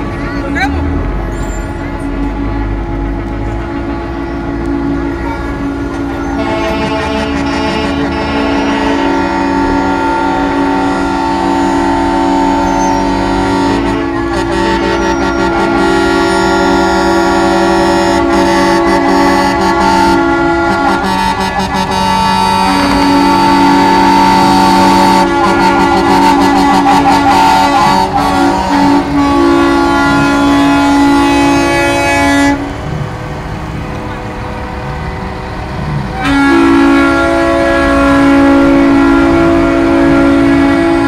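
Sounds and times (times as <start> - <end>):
truck air horns blasting: 0.0 - 41.0.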